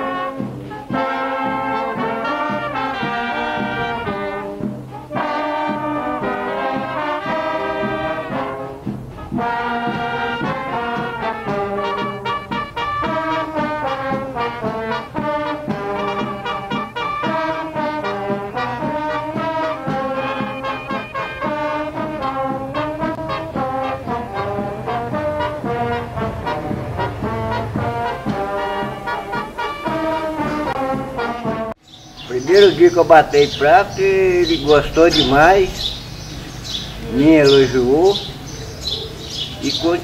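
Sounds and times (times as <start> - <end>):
brass band music: 0.0 - 40.0.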